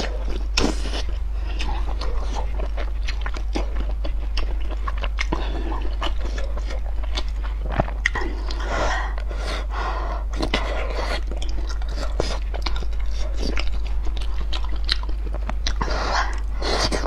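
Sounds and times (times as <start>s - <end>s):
wet chewing and biting: 0.0s - 17.0s.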